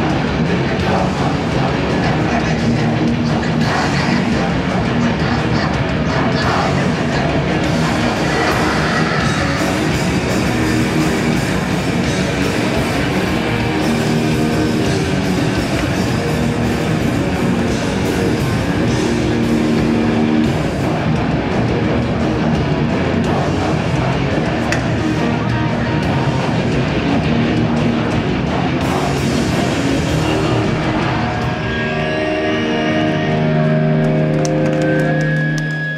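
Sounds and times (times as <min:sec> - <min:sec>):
distorted electric guitars: 0:00.0 - 0:35.9
drums: 0:00.0 - 0:35.9.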